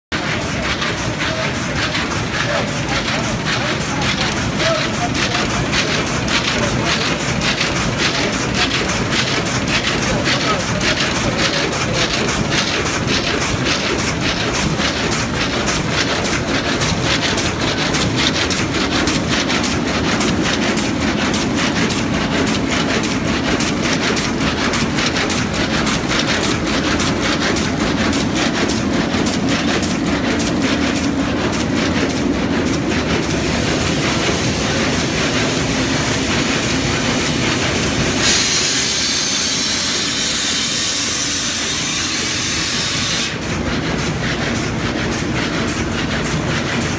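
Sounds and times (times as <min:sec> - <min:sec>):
weaving loom clattering: 0:00.2 - 0:46.9.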